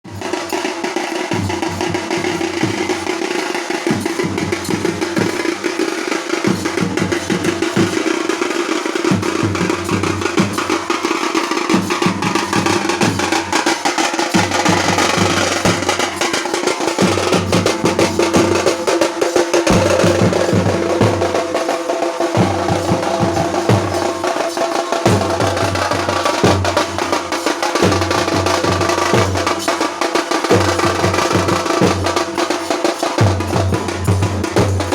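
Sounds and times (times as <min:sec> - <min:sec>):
fast dense drumming: 0:00.1 - 0:34.9.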